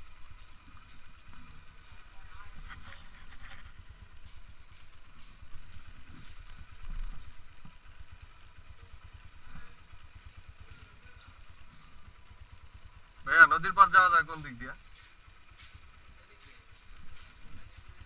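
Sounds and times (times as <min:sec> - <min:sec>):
motorcycle engine low revs: 0:00.0 - 0:18.0.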